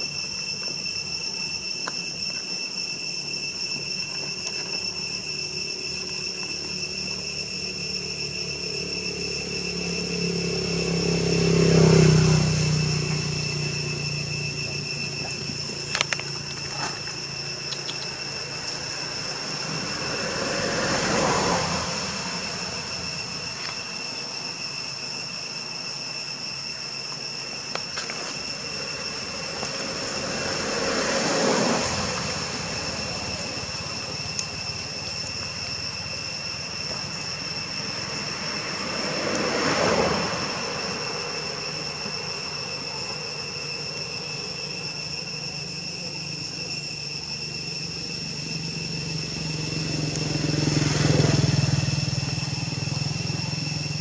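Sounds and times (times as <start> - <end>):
high drone of insects: 0.0 - 54.0
vehicles passing: 6.0 - 24.4, 27.6 - 54.0.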